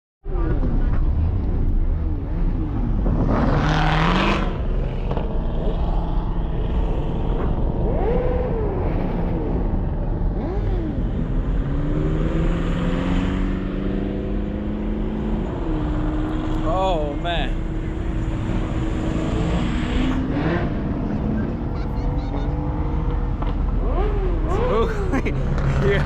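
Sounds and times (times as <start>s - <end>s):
car engines revving: 0.2s - 26.0s
car accelerating away: 0.3s - 26.0s.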